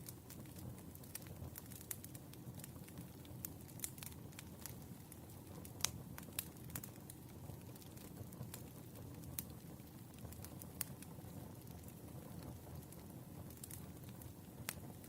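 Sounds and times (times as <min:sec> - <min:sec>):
crackles and pops of burning logs: 0:00.0 - 0:15.0
fire low rumble: 0:00.0 - 0:15.0.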